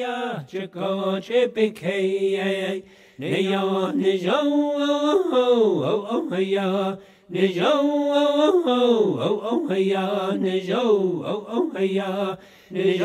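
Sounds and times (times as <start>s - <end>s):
voices chanting a song: 0.0s - 13.0s.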